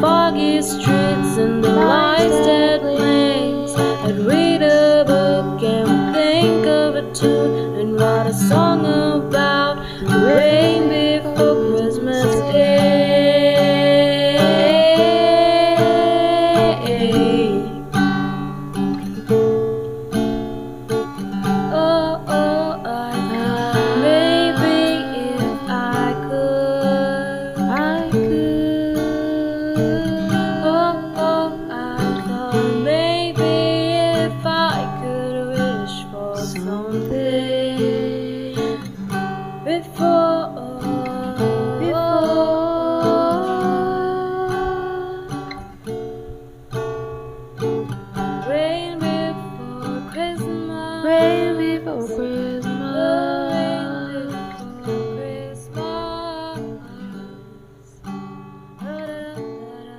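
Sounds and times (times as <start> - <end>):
person singing: 0.0 - 18.4, 21.4 - 39.0, 39.6 - 45.8, 48.4 - 57.6, 58.8 - 59.9
acoustic guitar strumming: 0.0 - 59.9.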